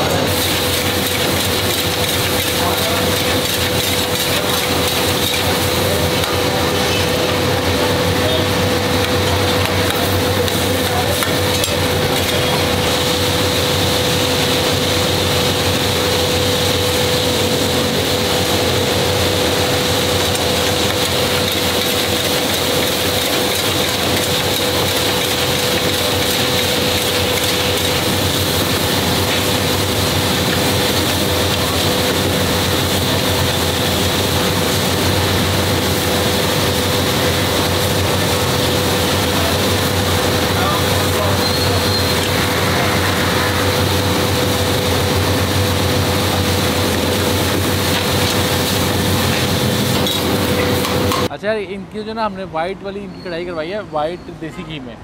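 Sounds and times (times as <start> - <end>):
gas burner flames hissing: 0.0 - 51.7
food sizzling in ghee: 0.2 - 51.2.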